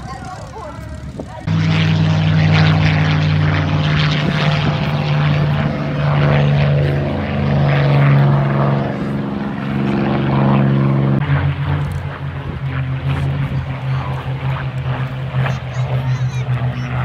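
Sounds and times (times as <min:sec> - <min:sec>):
aircraft engine drone: 0:00.0 - 0:17.0.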